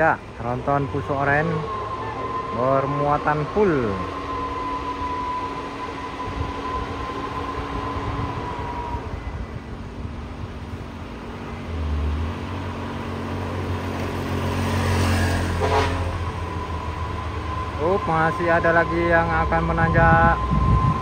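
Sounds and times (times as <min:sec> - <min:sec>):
deep rumble of approaching vehicles: 0:00.0 - 0:21.0
higher whine: 0:00.0 - 0:21.0
truck diesel engine under load: 0:00.0 - 0:21.0.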